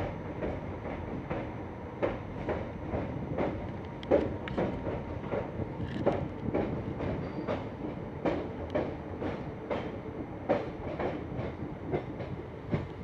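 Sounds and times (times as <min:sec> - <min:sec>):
train rumble: 0:00.0 - 0:13.0
train wheels clacking over rail joints: 0:00.4 - 0:13.0.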